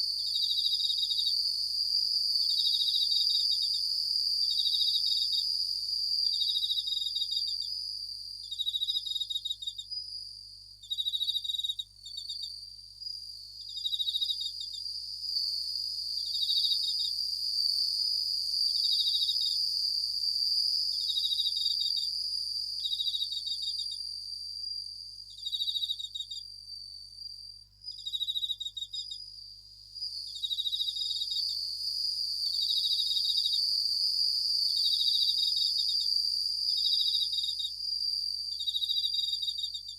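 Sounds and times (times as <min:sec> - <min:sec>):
crickets chirping: 0:00.0 - 0:39.9
high-pitched insect ringing: 0:00.0 - 0:39.9.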